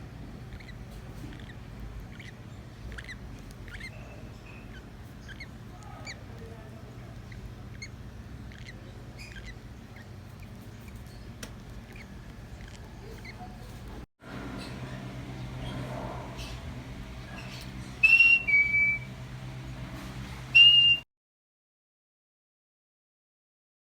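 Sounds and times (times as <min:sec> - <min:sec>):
lovebirds chirping: 0:00.0 - 0:14.0, 0:14.6 - 0:21.0
steady low hum: 0:00.0 - 0:21.0.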